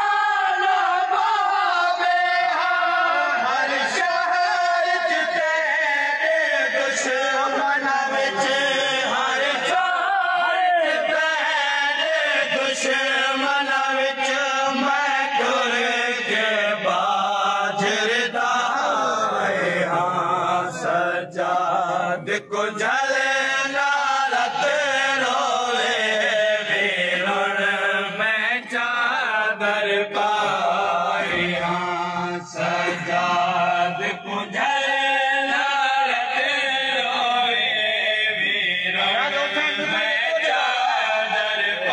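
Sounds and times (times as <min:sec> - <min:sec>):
men chanting a mourning lament: 0:00.0 - 0:41.9.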